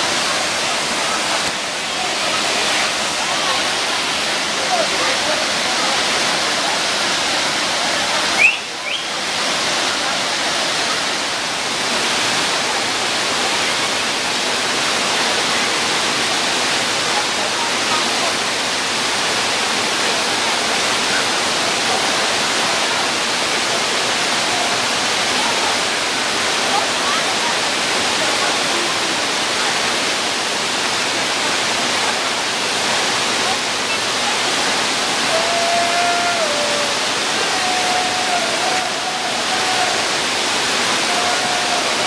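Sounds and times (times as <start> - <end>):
water rushing: 0.0 - 42.0.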